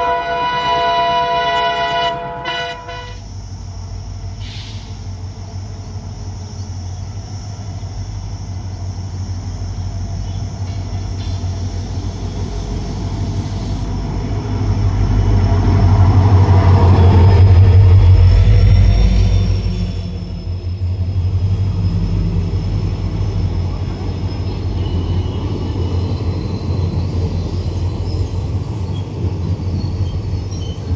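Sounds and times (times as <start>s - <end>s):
diesel locomotive engine droning: 0.0s - 30.9s.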